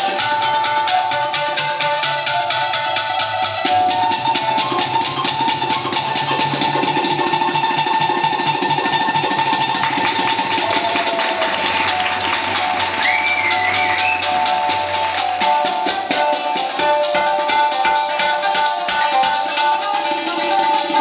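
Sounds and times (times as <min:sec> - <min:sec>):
plucked shamisen notes: 0:00.0 - 0:21.0
quick tabla strokes: 0:00.0 - 0:21.0.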